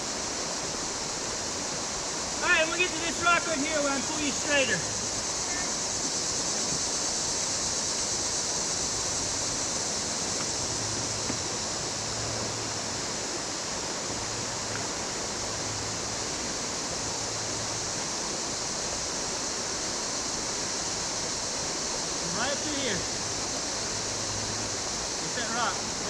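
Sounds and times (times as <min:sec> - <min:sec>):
river water rushing over rapids: 0:00.0 - 0:26.0.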